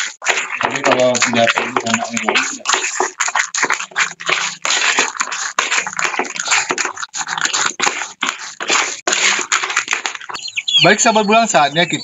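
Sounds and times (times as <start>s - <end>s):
feed mash being stirred: 0.0s - 12.0s.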